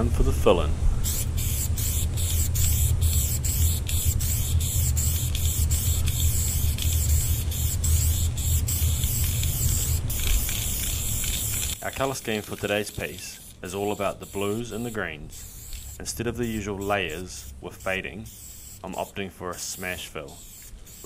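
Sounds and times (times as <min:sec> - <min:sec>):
spray paint can hissing: 0:01.0 - 0:21.0.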